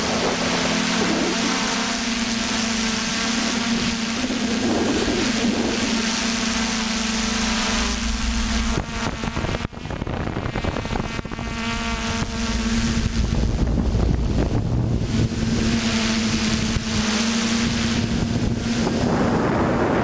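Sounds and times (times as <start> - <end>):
drone motors buzzing: 0.0 - 20.0.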